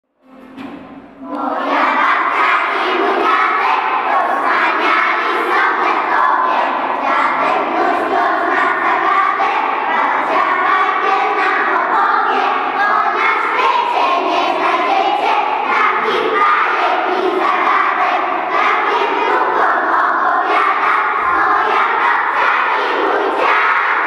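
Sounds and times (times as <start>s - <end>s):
children singing in unison: 0.2s - 24.0s.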